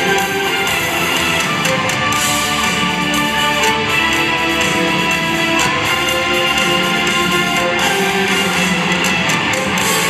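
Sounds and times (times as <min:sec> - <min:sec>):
live band playing held notes: 0:00.0 - 0:10.0.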